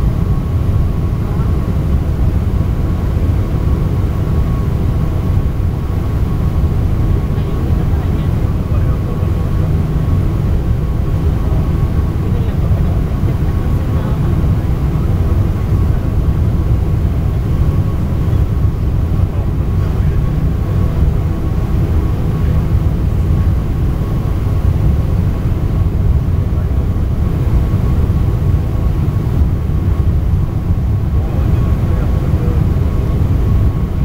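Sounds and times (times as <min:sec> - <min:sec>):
airliner cabin roar: 0:00.0 - 0:34.0
faint steady hum: 0:00.0 - 0:34.0.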